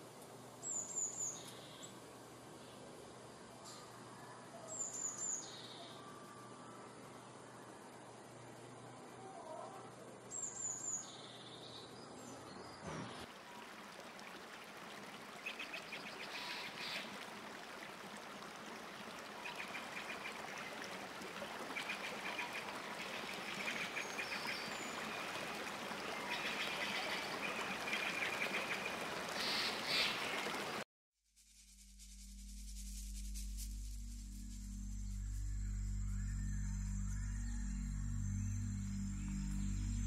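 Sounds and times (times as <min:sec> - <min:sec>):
steady outdoor hiss: 0:00.0 - 0:30.8, 0:31.4 - 0:40.0.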